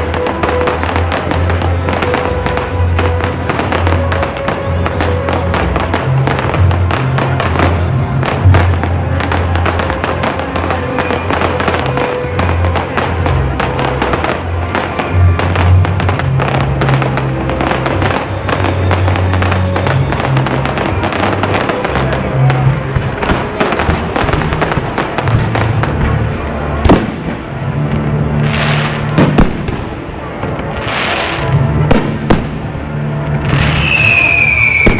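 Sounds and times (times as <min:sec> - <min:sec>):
music with low sustained notes: 0:00.0 - 0:33.8
fireworks bangs and crackling pops: 0:00.0 - 0:34.9.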